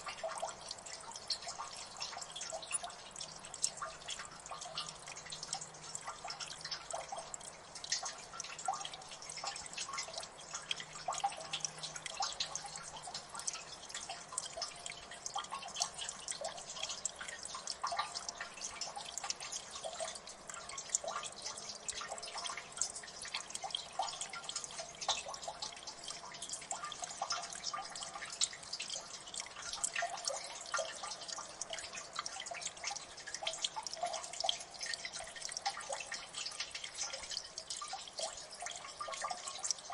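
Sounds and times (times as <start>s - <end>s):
faint water trickle: 0.0s - 39.9s
water dripping: 0.0s - 39.9s.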